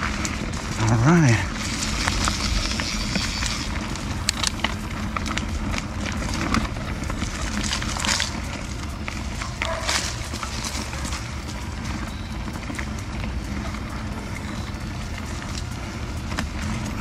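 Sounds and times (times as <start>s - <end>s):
bike knocking and rattling: 0.0s - 17.0s
bike tyres rumbling on dirt: 0.0s - 17.0s.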